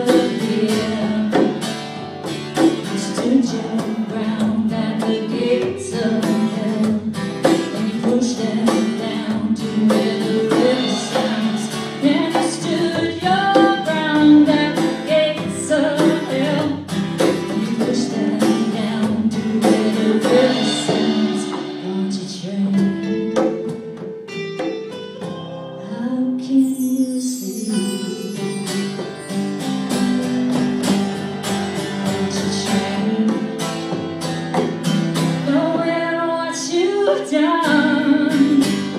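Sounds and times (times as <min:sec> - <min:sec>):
woman singing: 0:00.0 - 0:01.9, 0:02.6 - 0:24.0, 0:25.8 - 0:28.7, 0:32.1 - 0:34.0, 0:35.4 - 0:38.9
hand percussion beat: 0:00.0 - 0:25.6, 0:26.7 - 0:36.1
acoustic and electric guitar: 0:00.0 - 0:38.9.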